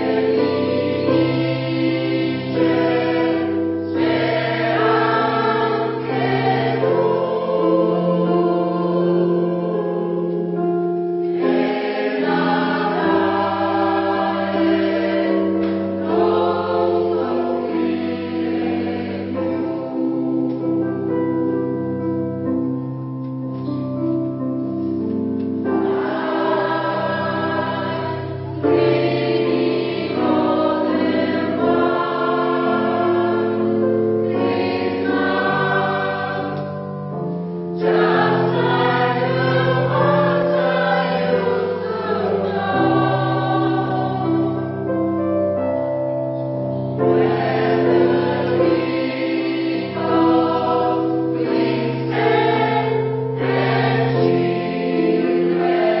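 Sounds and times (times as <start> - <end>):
choir singing sustained chords: 0.0 - 23.0, 23.6 - 56.0.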